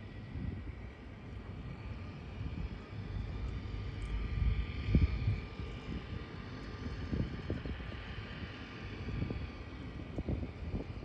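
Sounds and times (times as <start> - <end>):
distant engine hum: 0.0 - 11.0
wind buffeting microphone: 0.0 - 11.0.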